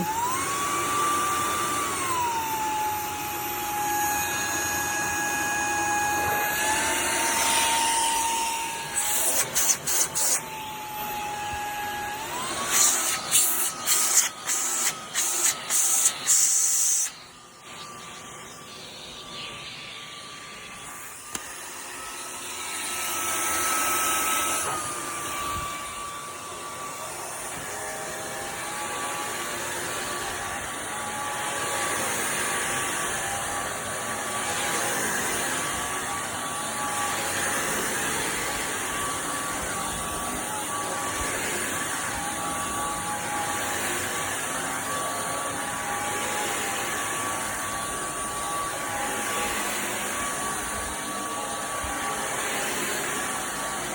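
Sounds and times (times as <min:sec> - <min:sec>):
stick vacuum running: 0:00.0 - 0:53.9.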